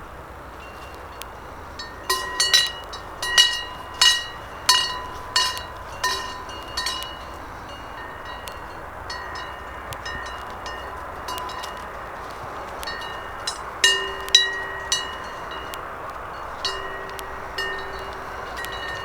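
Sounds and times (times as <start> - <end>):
cowbells clanking: 0.0 - 19.0
outdoor hiss: 0.0 - 19.0.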